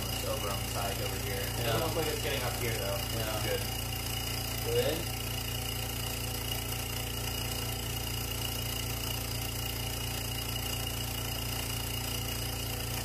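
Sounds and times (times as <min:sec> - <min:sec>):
vacuum pump humming: 0:00.0 - 0:13.0.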